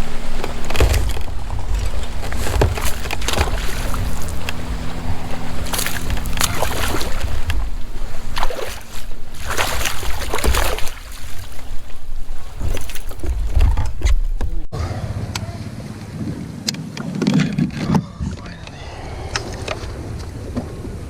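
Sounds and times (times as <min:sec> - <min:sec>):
water splashing around a kayak: 0:00.0 - 0:18.0, 0:19.3 - 0:21.0
wind rumble on microphone: 0:00.0 - 0:21.0.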